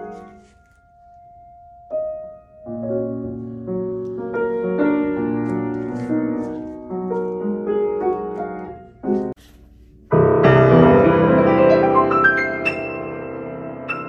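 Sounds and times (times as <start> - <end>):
grand piano playing: 0.0 - 14.0.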